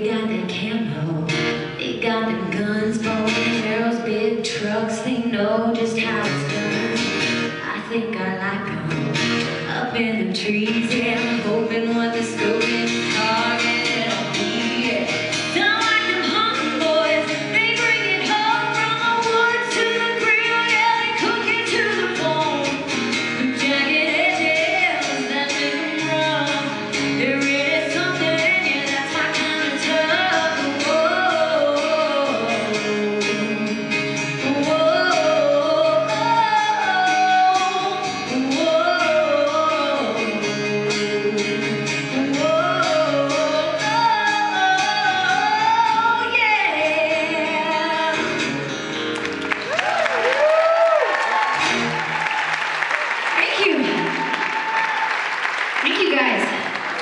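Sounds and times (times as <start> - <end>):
woman singing into a microphone: 0.0 - 48.6
strummed acoustic guitar: 0.0 - 49.7.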